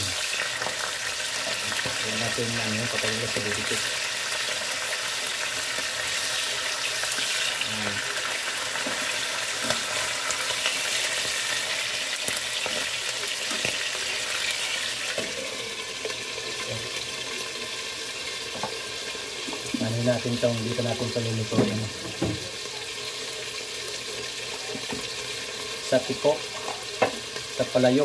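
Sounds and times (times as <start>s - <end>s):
fish frying in hot oil: 0.0s - 28.0s.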